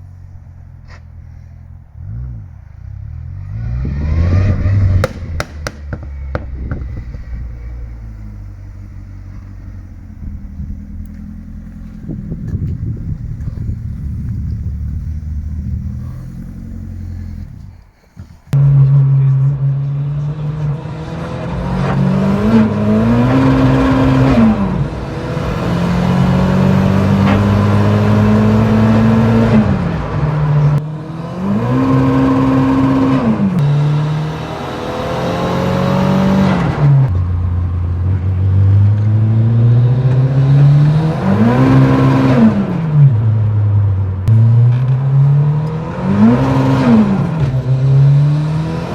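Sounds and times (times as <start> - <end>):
car engine revving hard: 0.9 - 17.7, 18.5 - 37.2, 38.0 - 48.9.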